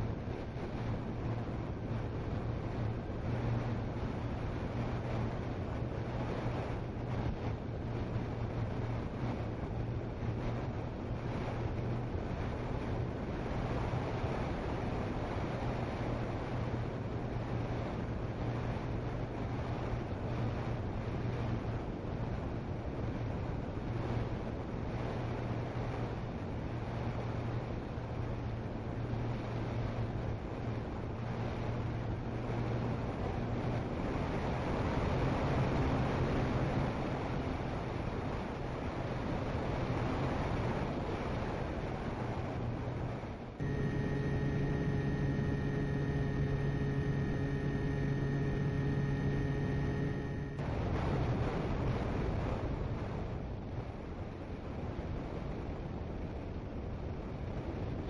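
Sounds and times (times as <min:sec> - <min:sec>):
electric motors and propellers droning: 0:00.0 - 0:52.9
wind rushing over microphone: 0:00.0 - 0:58.0.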